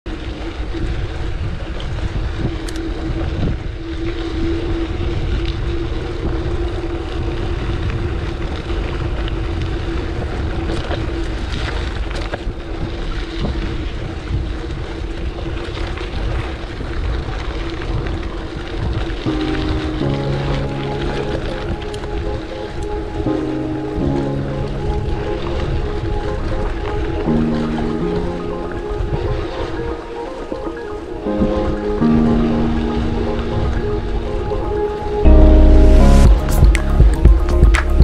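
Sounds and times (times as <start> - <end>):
wind buffeting microphone: 0.1 - 38.0.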